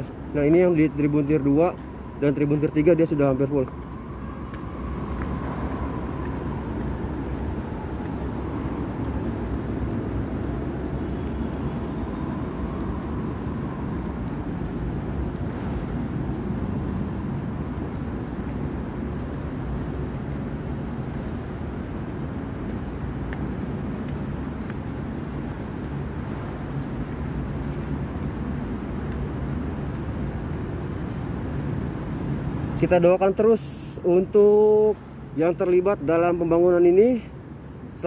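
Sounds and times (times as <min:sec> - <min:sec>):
ambient rumble and hiss: 0:00.0 - 0:38.0.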